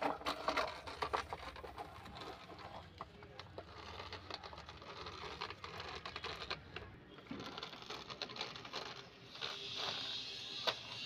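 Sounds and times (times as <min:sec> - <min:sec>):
toy truck wheels rattling on wood: 0:00.0 - 0:11.0.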